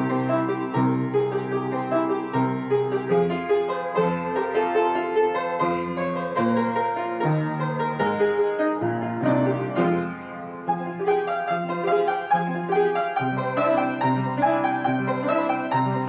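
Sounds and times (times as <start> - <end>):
neoclassical piano music: 0.0 - 16.0.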